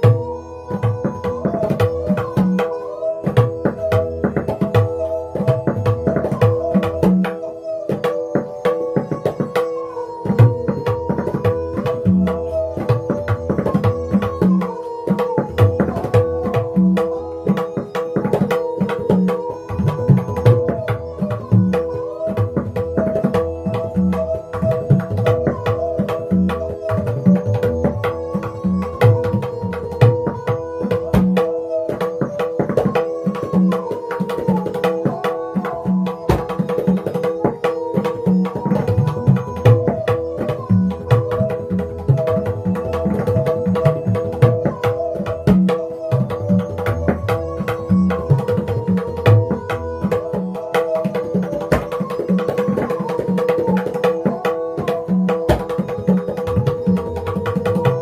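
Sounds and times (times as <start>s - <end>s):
tabla drumming: 0.0s - 58.0s.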